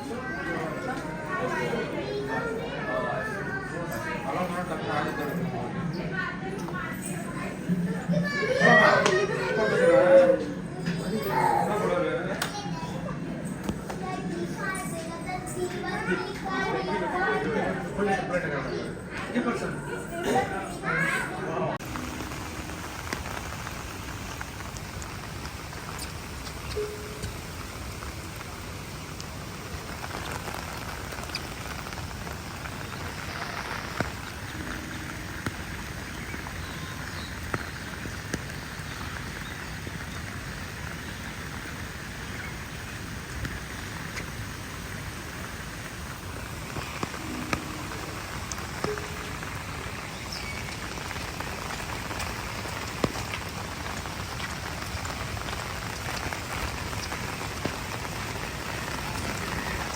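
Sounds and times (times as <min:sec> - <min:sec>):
raindrops tapping surfaces: 0:00.0 - 0:21.2, 0:21.8 - 0:59.9
steady rain hiss: 0:00.0 - 0:59.9.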